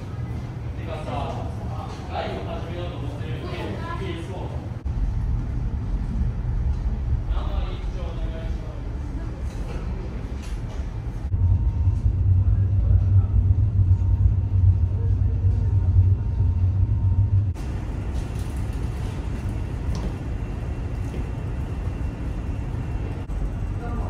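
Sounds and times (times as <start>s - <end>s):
ferry engines droning: 0.0s - 24.0s.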